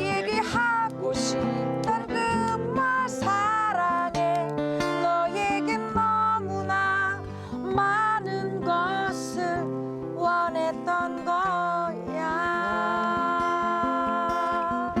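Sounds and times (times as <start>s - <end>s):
acoustic guitar strumming: 0.0s - 15.0s
person singing ballad: 0.0s - 15.0s.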